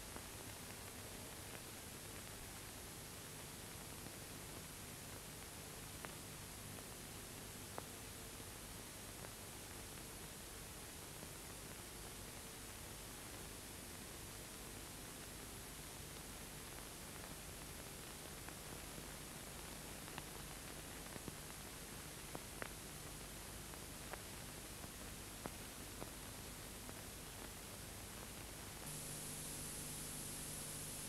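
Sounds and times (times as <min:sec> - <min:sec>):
film soundtrack hiss: 0:00.0 - 0:31.0.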